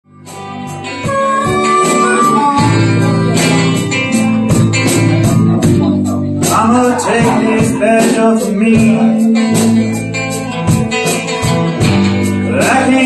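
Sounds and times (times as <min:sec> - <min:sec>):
rock band playing: 0:00.0 - 0:13.0
bending lead guitar line: 0:00.1 - 0:13.0.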